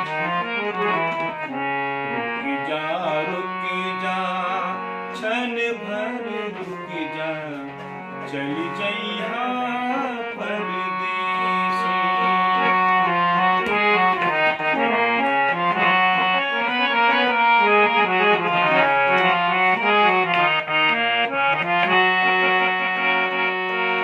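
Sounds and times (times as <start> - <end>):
free-reed keyboard melody: 0.0 - 24.0.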